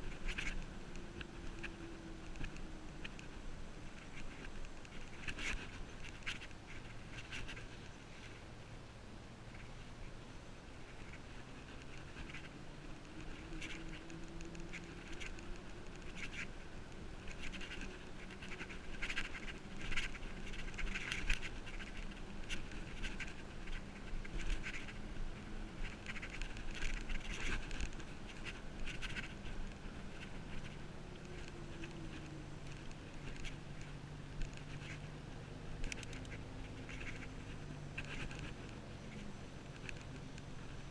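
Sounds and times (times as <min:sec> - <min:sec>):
bicycle clicks and rattles: 0:00.0 - 0:08.3, 0:10.9 - 0:35.1, 0:35.7 - 0:40.9.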